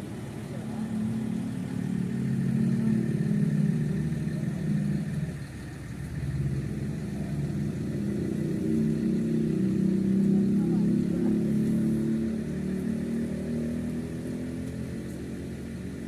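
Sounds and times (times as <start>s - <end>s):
diesel bus engine idling: 0.0s - 16.0s.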